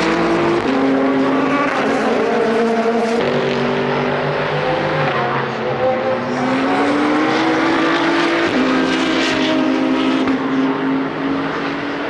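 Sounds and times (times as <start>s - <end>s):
race car engine accelerating: 0.0s - 12.0s.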